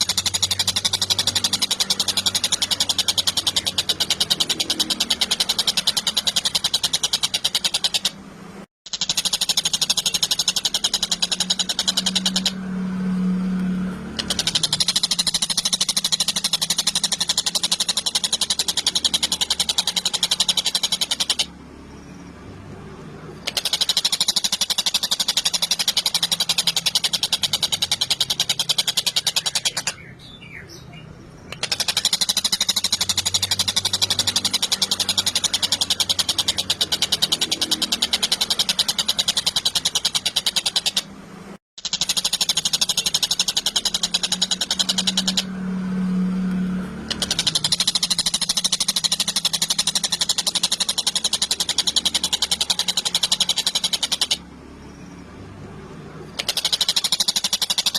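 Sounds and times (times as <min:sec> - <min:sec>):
kingfisher rattling trills: 0:00.0 - 0:57.9.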